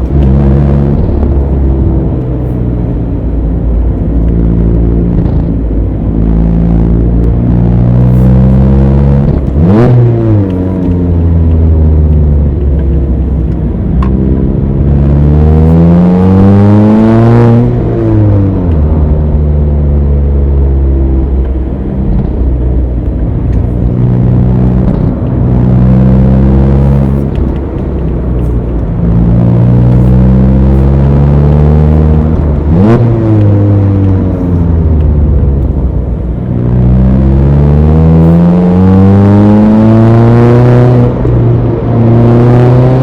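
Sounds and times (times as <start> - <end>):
car engine climbing through gears: 0.0 - 43.0.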